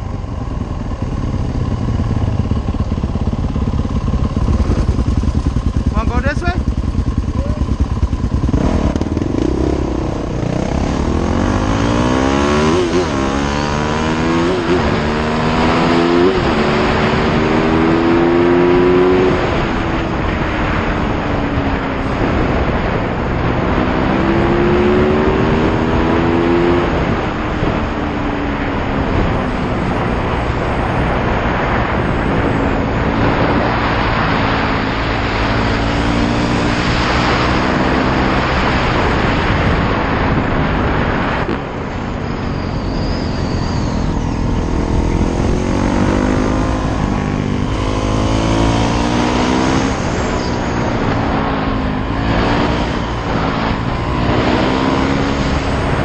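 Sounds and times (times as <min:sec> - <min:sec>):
wind rush on microphone: 0:00.0 - 0:56.0
dirt bike engine revving: 0:01.0 - 0:20.9, 0:21.7 - 0:27.9, 0:29.0 - 0:56.0.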